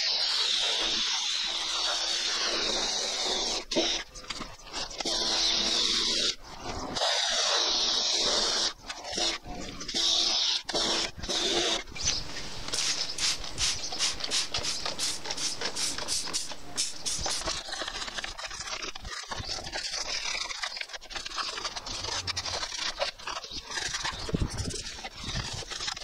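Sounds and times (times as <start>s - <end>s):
rubbing and scraping on engine cover: 0.0s - 26.0s.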